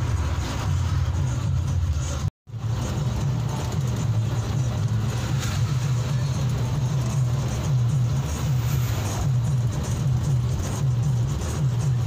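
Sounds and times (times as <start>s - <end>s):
diesel bus engine running: 0.0s - 12.0s
road noise: 0.0s - 12.0s.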